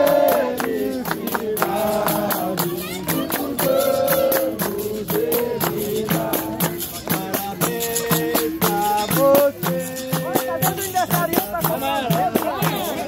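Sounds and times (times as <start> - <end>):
group singing: 0.0 - 13.0
hand clapping: 0.0 - 13.0
pandeiro and berimbau: 0.0 - 13.0.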